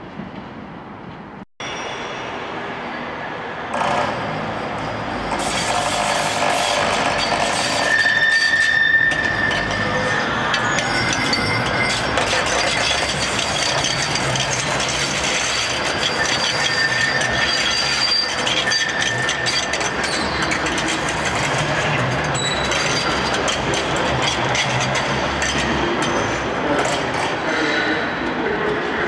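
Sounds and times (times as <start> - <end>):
tram wheels rumbling on rail: 0.0 - 1.4, 2.0 - 29.0.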